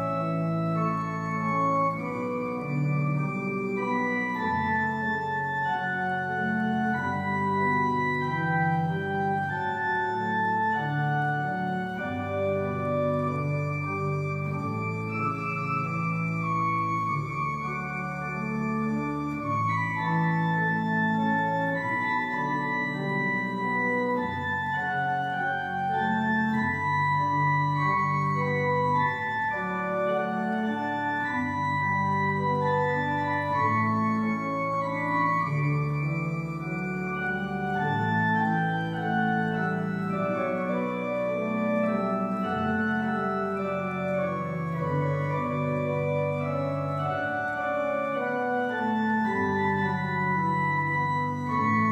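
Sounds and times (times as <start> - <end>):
deep organ pedal bass notes: 0.0 - 51.9
organ chords: 0.0 - 51.9.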